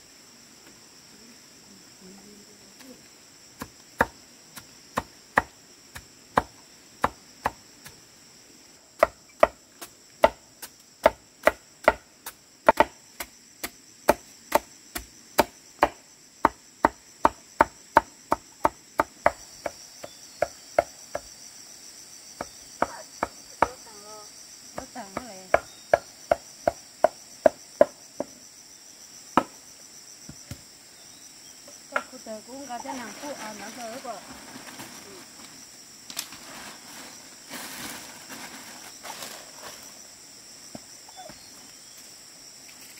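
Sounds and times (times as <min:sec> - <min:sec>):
insect chirring: 0:00.0 - 0:42.9.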